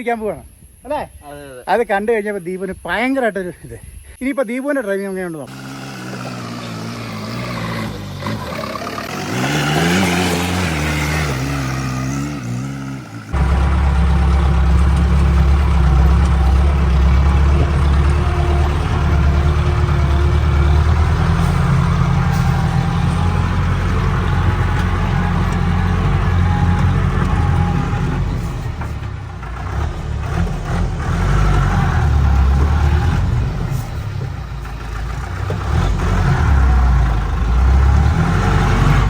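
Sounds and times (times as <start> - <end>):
low engine drone under load: 5.5 - 39.0
off-road vehicle engine revving: 5.5 - 39.0.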